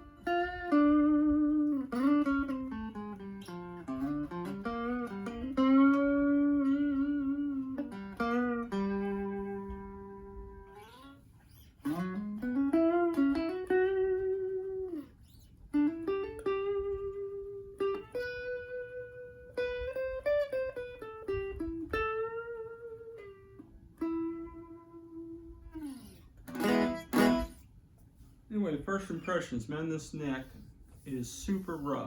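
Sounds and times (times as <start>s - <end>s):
electric guitar lead phrases: 0.0s - 11.2s, 11.8s - 27.6s.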